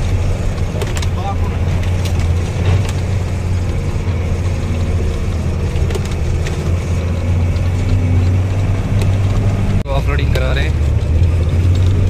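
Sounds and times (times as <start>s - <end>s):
truck engine droning: 0.0s - 12.0s
truck rolling over rough road: 0.0s - 12.0s.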